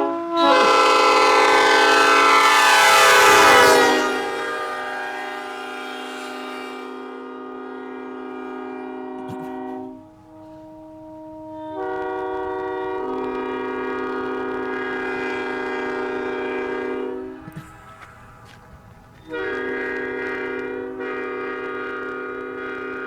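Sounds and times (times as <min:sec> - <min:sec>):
locomotive air horn blasts: 0:00.0 - 0:23.0.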